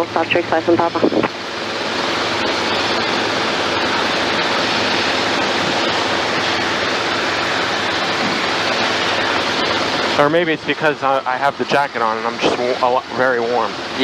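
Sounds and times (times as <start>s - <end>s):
helicopter cabin noise: 0.0s - 14.0s.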